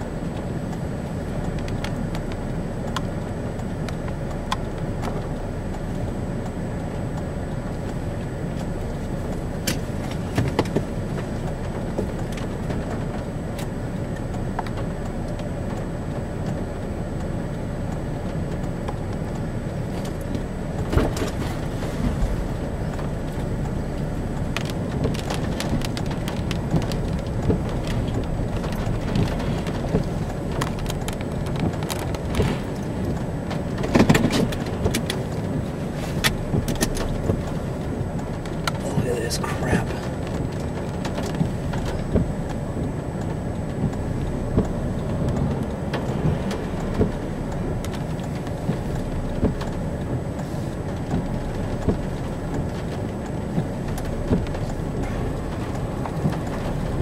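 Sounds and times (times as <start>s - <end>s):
car engine from inside: 0.0s - 57.0s
raindrops tapping on car: 0.0s - 57.0s
wind rumble: 0.0s - 57.0s.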